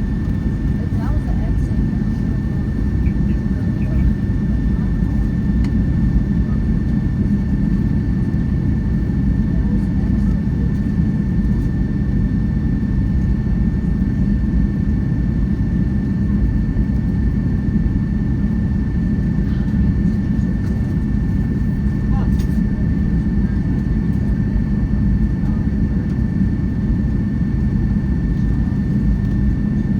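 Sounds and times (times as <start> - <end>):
aircraft cabin rumble: 0.0 - 29.9.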